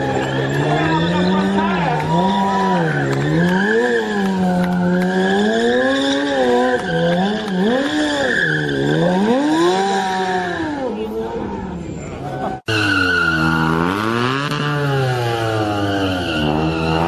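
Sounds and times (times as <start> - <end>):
motorcycle engine revving hard: 0.0 - 11.0, 13.3 - 17.0.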